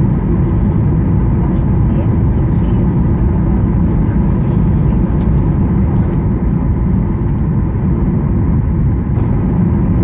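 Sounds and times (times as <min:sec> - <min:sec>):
aircraft engines and rushing air: 0:00.0 - 0:10.0.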